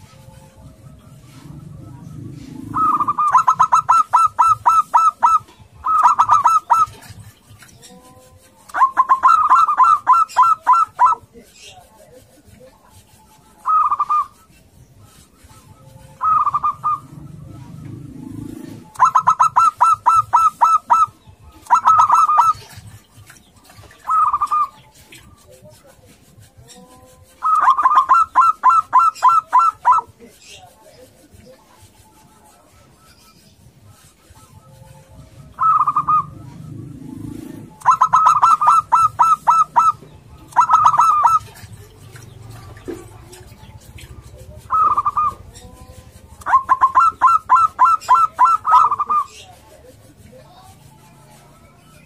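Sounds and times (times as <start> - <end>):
dove cooing: 0.0 - 7.7, 8.7 - 11.3, 13.6 - 25.4, 27.4 - 30.2, 34.0 - 50.8.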